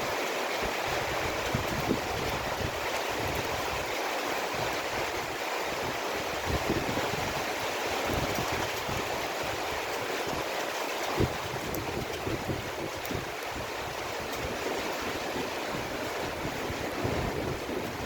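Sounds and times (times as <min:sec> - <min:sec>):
heavy rain hissing: 0:00.0 - 0:18.0
wind: 0:00.0 - 0:18.0.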